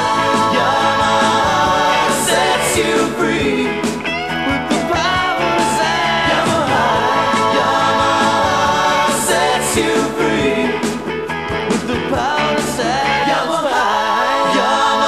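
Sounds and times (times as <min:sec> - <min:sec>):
person singing: 0:00.0 - 0:10.8, 0:11.9 - 0:15.0
rock band music: 0:00.0 - 0:14.2.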